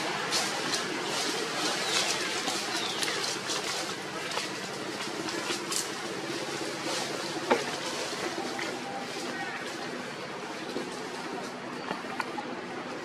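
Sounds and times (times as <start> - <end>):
crackling rustles: 0.0 - 13.0.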